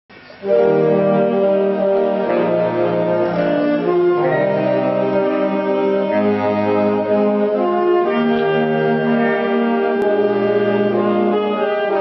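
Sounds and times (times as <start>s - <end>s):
saxophone ensemble playing chords: 0.2s - 12.0s.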